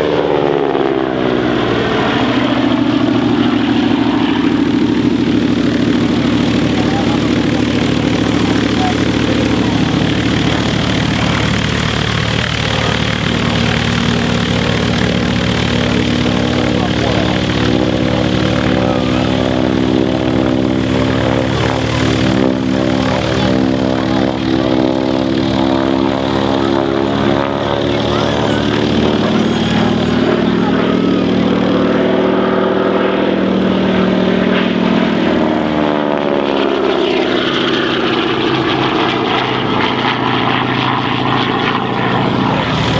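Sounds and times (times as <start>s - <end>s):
model aeroplane engine buzzing: 0.0s - 42.9s.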